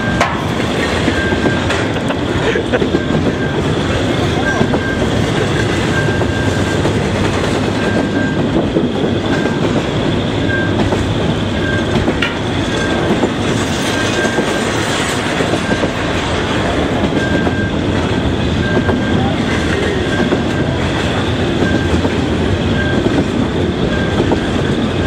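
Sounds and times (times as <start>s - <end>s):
freight train wheels clattering: 0.0s - 25.0s.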